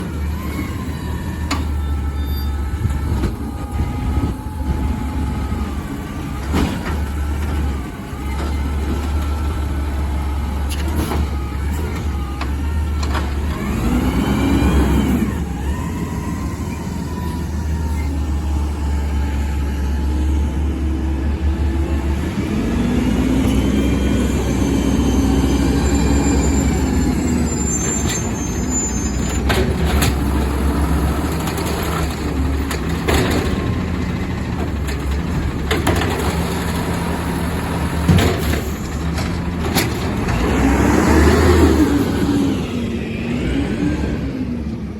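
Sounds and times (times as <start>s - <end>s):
garbage truck engine running: 0.0s - 44.9s.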